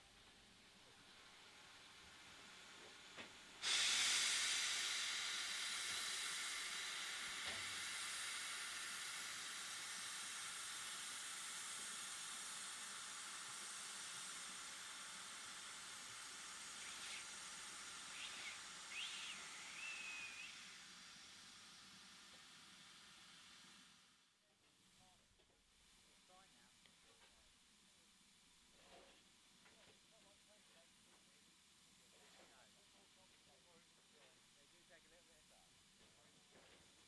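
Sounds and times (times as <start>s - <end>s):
steam locomotive hissing: 0.0s - 25.1s, 29.9s - 37.0s.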